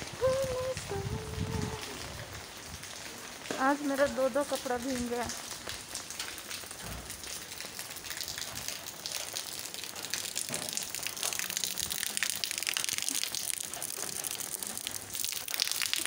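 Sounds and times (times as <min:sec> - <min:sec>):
heavy rain on an umbrella: 0:00.0 - 0:16.0.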